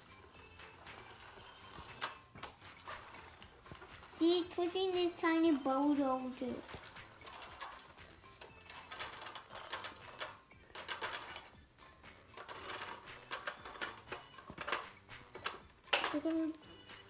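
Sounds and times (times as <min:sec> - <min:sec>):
toy bulldozer rattling on floor: 0:00.0 - 0:04.4, 0:05.4 - 0:11.6, 0:12.2 - 0:17.0.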